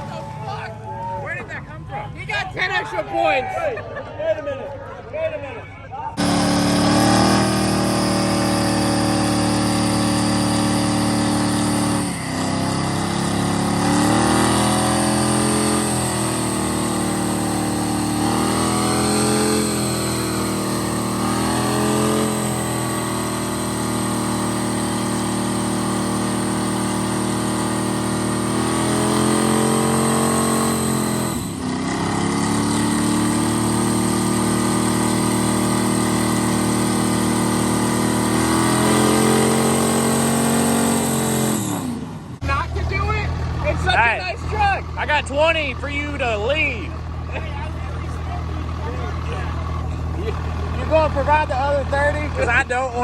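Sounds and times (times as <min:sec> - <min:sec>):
truck engine at high revs: 0:00.0 - 0:03.4, 0:06.1 - 0:53.0
steady high whine: 0:06.2 - 0:53.0.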